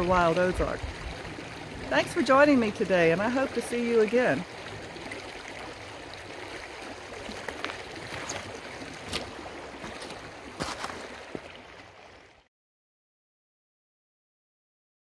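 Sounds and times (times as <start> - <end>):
creek water rushing over rocks: 0.0 - 12.5.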